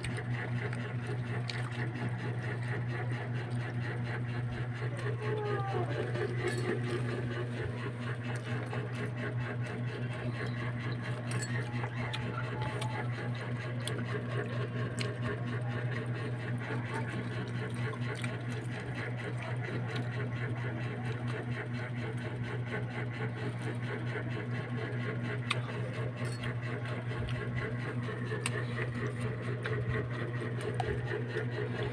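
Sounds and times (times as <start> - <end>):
small motor humming and rattling: 0.0 - 31.9.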